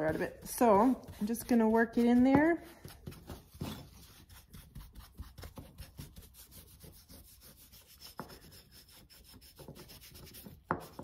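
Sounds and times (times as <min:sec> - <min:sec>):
brush rubbing on wood: 0:00.0 - 0:11.0.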